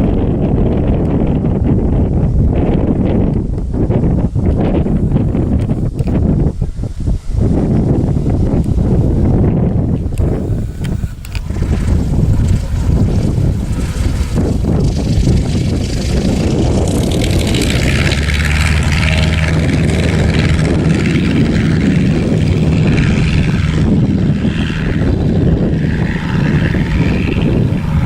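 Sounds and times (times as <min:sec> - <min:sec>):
propeller aircraft engine: 0:00.0 - 0:28.0
wind buffeting microphone: 0:00.0 - 0:28.0.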